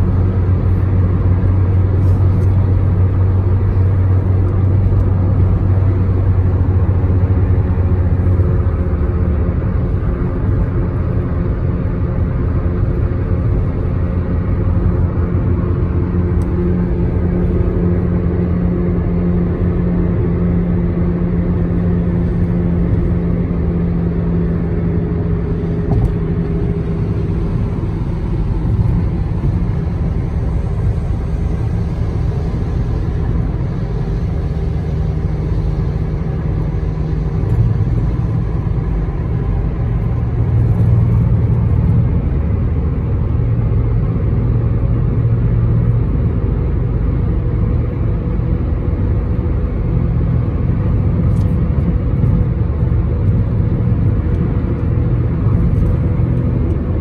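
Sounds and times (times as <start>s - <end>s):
car road noise drone: 0.0s - 57.0s
low hum: 0.0s - 57.0s.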